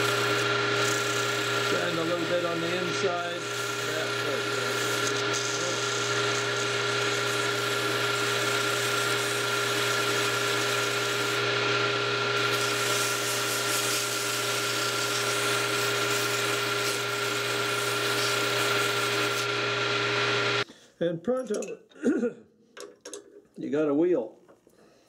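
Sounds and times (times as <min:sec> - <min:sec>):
lathe humming and whining: 0:00.0 - 0:20.6
sandpaper rubbing spinning wood: 0:00.0 - 0:20.6.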